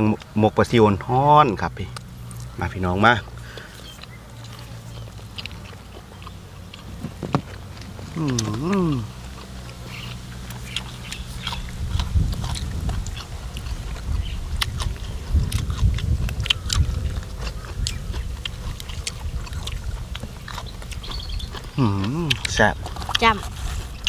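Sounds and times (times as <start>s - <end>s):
people chewing food: 0.0s - 24.0s.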